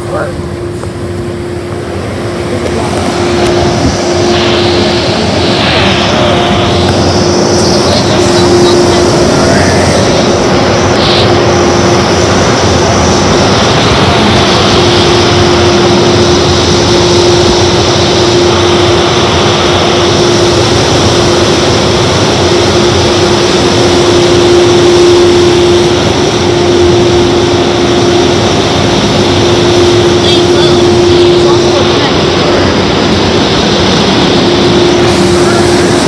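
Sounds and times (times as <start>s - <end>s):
droning hum: 0.0s - 36.0s
dryer blowers rushing air: 0.0s - 36.0s.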